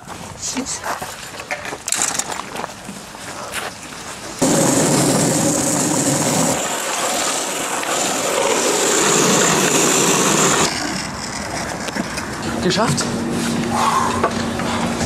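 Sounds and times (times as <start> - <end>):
longboard wheels rolling on asphalt: 0.0 - 15.0.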